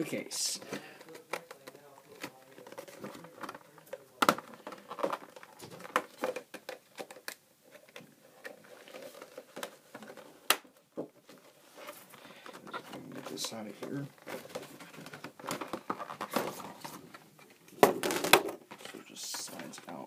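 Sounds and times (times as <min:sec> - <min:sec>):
packaging crinkling: 0:00.9 - 0:10.4, 0:11.3 - 0:20.0.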